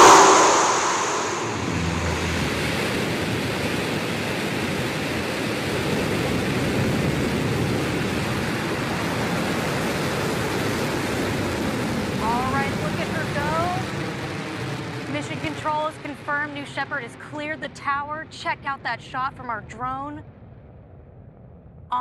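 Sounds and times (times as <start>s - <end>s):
rocket engine roaring: 0.0s - 18.2s.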